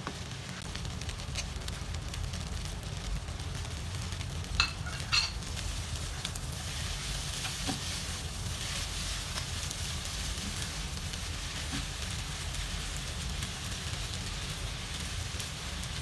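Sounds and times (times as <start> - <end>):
fried rice sizzling in a wok: 0.0 - 16.0.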